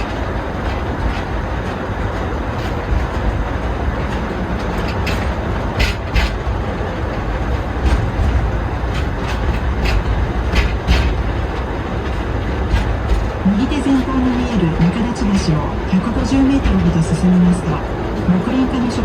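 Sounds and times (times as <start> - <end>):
train rumble: 0.0 - 19.0
wheels clicking over rail joints: 0.0 - 19.0.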